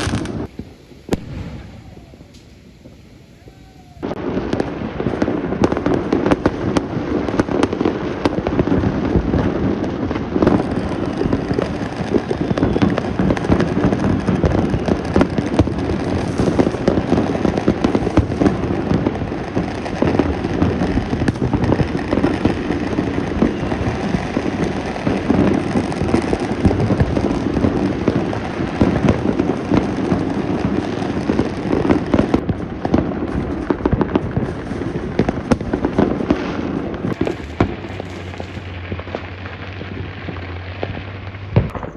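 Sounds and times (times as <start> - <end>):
fireworks crackling and popping: 0.0 - 41.9
sharp firework bangs: 0.0 - 41.9.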